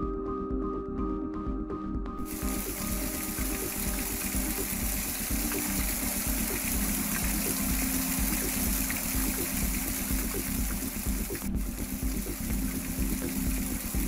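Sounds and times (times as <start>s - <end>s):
background music: 0.0s - 14.0s
water falling onto rocks: 2.2s - 14.0s.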